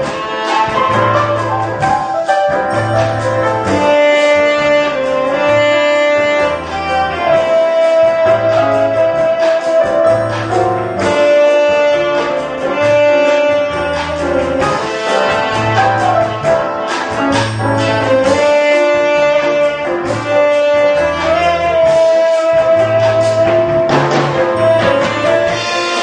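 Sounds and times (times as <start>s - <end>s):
keyboard accompaniment: 0.0s - 26.0s
low bass line: 0.0s - 26.0s
steady drum beat: 0.0s - 26.0s
tenor saxophone jazz melody: 0.0s - 26.0s.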